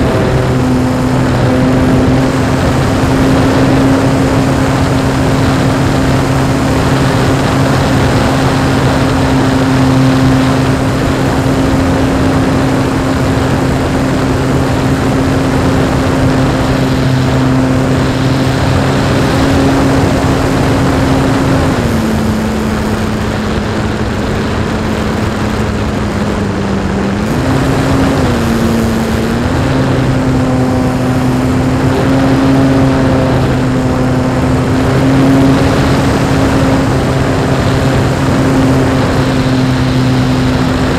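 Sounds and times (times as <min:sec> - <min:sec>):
model plane motor and propeller: 0:00.0 - 0:40.9
wind rushing over microphone: 0:00.0 - 0:40.9.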